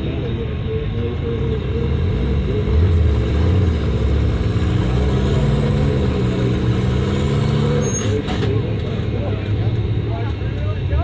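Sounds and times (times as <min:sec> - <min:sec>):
buggy engine running at low revs: 0:00.0 - 0:11.0.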